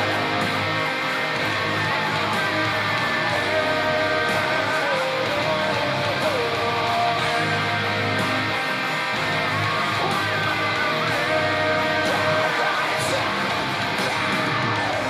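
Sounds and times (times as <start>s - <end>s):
bass and drums: 0.0s - 15.0s
distorted electric guitars: 0.0s - 15.0s.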